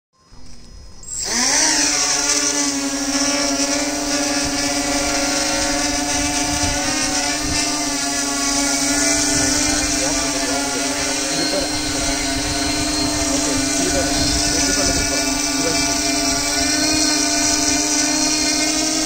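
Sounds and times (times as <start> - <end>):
drone motors whining and buzzing: 0.2 - 19.0.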